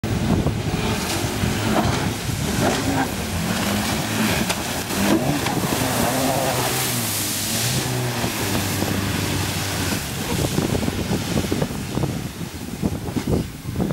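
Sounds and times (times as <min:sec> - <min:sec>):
speedboat engine running hard: 0:00.0 - 0:13.9.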